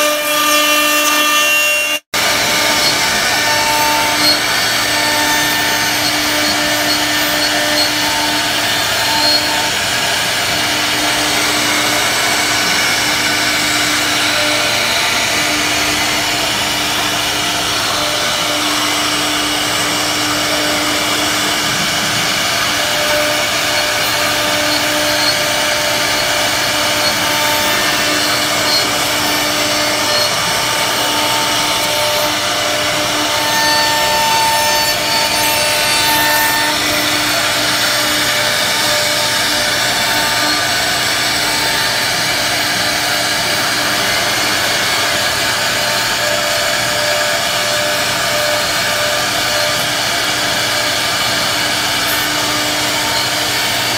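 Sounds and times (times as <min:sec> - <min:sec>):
bit cutting through wood: 0:00.0 - 0:53.9
router spindle whine: 0:00.0 - 0:53.9.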